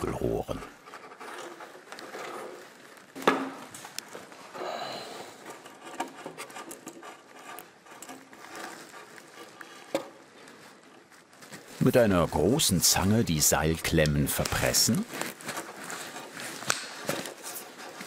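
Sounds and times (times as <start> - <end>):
faint rustling and handling: 0.0 - 18.0.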